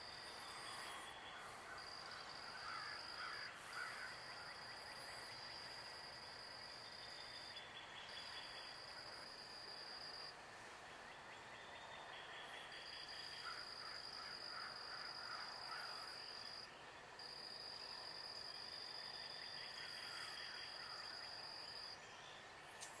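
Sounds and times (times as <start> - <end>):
insects buzzing high-pitched: 0.0 - 10.3, 12.7 - 22.0, 22.7 - 23.0
insect chirps: 0.0 - 10.4, 11.0 - 23.0
low insect trill: 0.0 - 10.4, 11.7 - 23.0.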